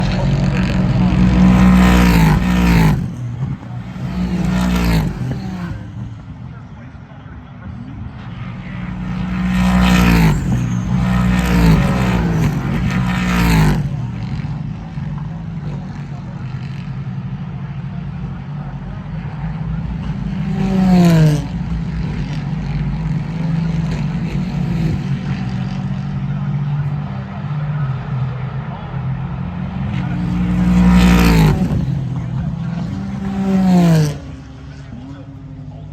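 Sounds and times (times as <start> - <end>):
race cars passing at speed: 0.0 - 35.9.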